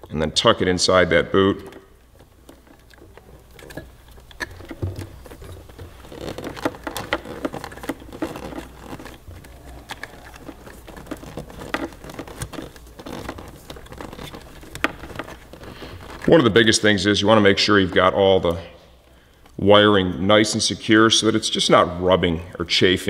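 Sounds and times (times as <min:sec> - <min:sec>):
wires and rubber rustling: 0:00.0 - 0:23.0.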